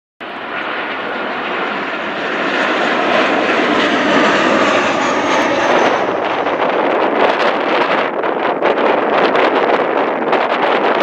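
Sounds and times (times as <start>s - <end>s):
jet engines rushing: 0.2s - 10.2s.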